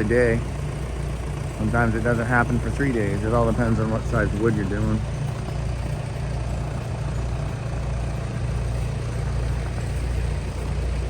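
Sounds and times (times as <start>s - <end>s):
engines idling with low hum: 0.0s - 11.0s.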